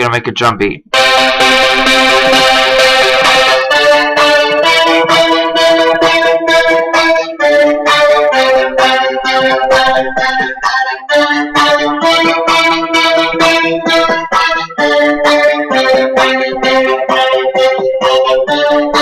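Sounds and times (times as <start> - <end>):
synth melody: 0.9 - 19.0.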